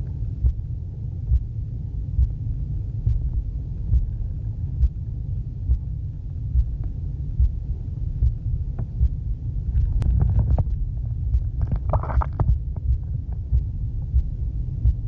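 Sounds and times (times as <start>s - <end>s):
low underwater rumble: 0.0s - 15.0s
heartbeat thumping: 0.4s - 15.0s.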